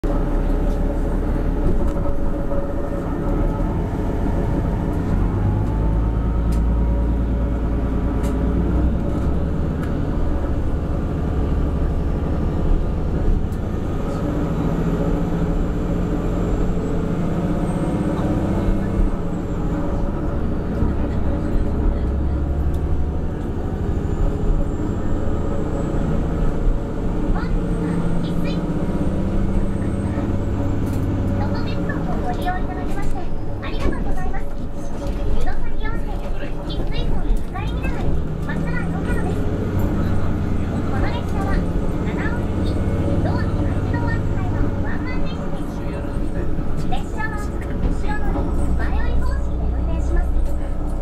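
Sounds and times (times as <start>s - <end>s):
diesel railcar engine drone: 0.0s - 51.0s
wheels on track: 0.0s - 51.0s.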